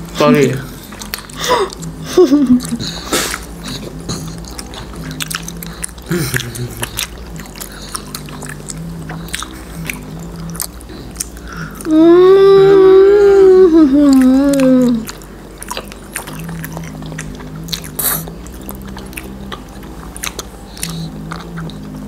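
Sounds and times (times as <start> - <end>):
people chewing wetly: 0.0 - 22.0.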